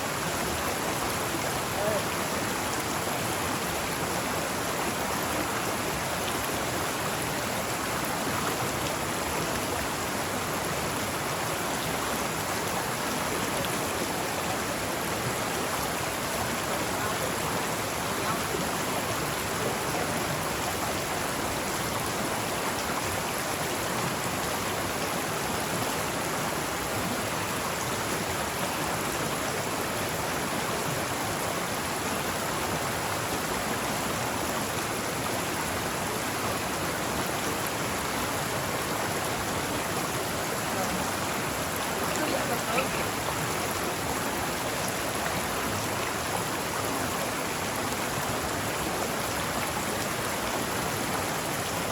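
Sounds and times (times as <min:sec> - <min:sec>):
stream babbling: 0:00.0 - 0:51.9.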